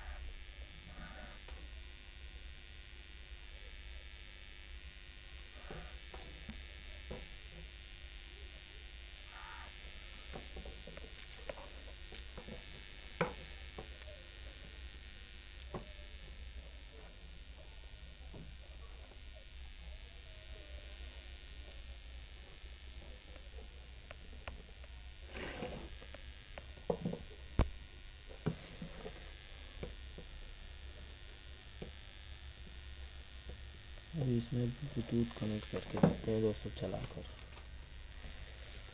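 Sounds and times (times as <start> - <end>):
low hum with faint hiss: 0.0 - 38.9.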